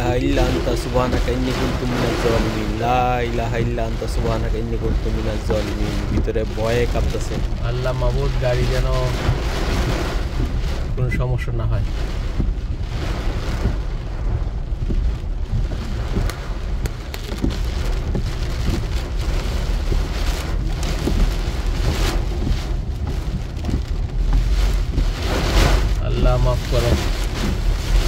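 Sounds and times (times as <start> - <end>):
heavy rain on car roof: 0.0 - 28.0
low rumble: 0.0 - 28.0.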